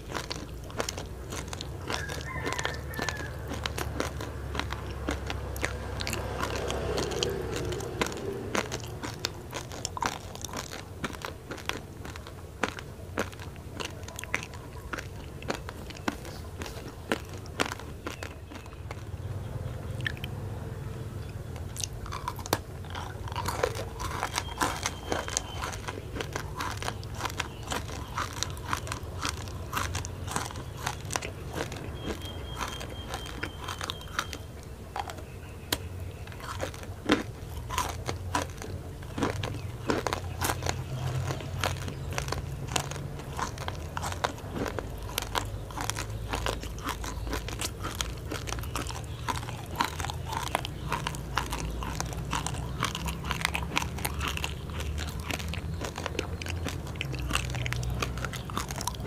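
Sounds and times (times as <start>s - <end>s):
crunchy biting and chewing: 0.0s - 59.0s.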